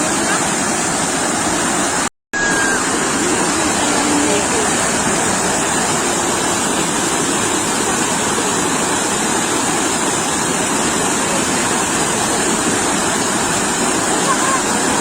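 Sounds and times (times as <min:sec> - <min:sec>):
sea waves washing on beach: 0:00.0 - 0:15.0.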